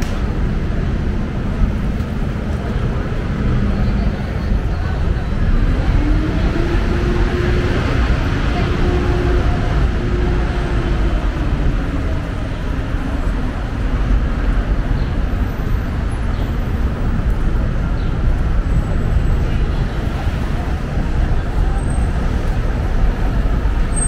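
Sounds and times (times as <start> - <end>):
city street traffic: 0.0 - 24.0.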